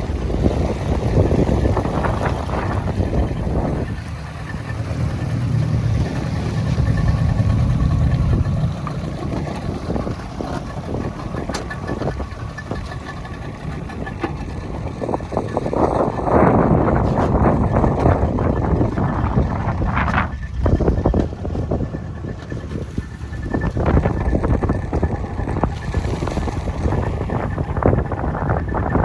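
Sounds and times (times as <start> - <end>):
boat engine rumble: 0.0 - 29.0
water rushing: 0.0 - 29.0.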